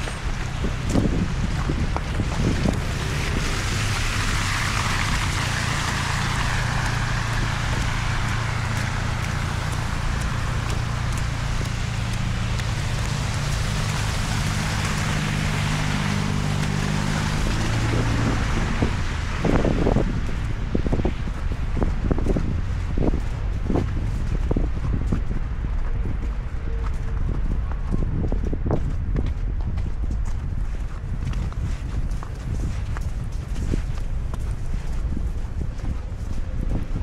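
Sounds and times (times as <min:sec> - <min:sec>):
low engine hum: 0:00.0 - 0:37.0
tyre and road noise: 0:00.0 - 0:37.0.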